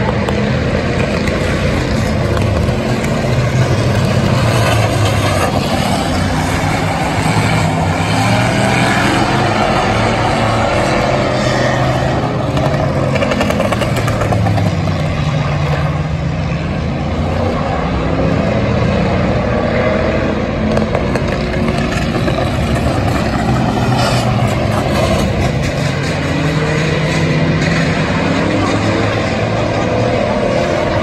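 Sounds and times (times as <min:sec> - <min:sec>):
race car engines: 0:00.0 - 0:31.0.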